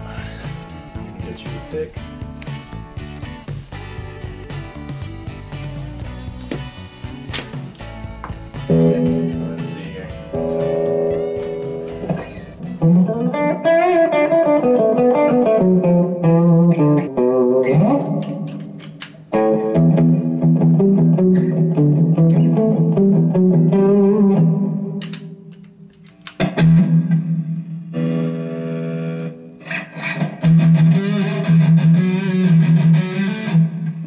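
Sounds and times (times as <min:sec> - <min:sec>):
electric guitar notes and chords: 0:00.0 - 0:34.0.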